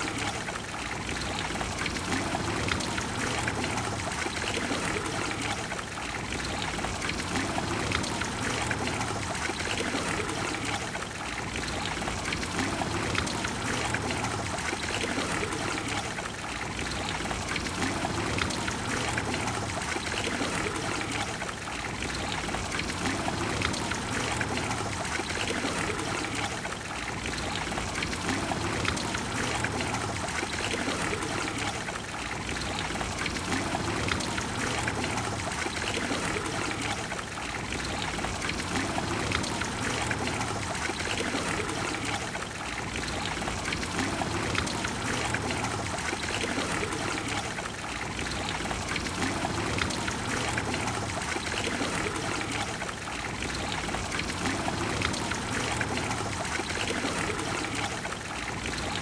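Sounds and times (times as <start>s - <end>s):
fountain water splashing into basin: 0.0s - 59.0s.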